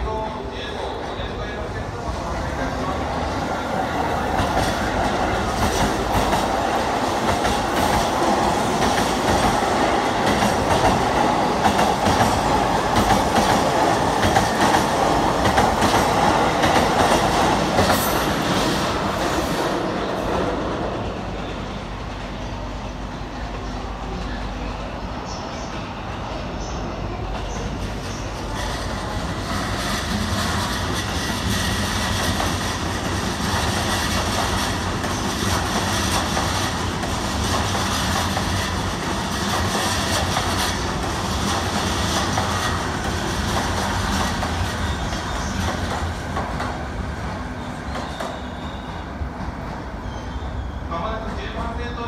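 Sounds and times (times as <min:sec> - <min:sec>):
train wheels clacking over rails: 0:02.4 - 0:23.7, 0:27.2 - 0:50.2.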